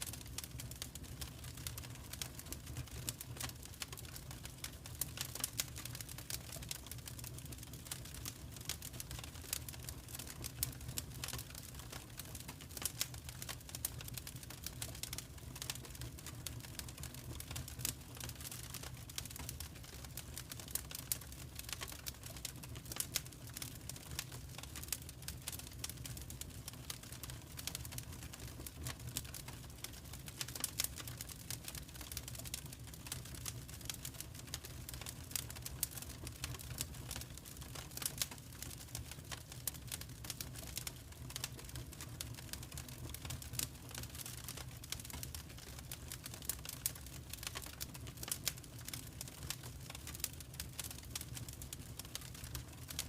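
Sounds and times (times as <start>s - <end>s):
fire crackling and popping: 0.0s - 53.0s
low rumble of flames: 0.0s - 53.0s.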